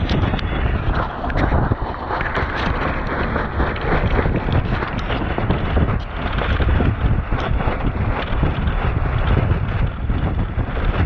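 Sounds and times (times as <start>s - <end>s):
water washing along hull: 0.0s - 11.0s
wind buffeting microphone: 0.0s - 11.0s.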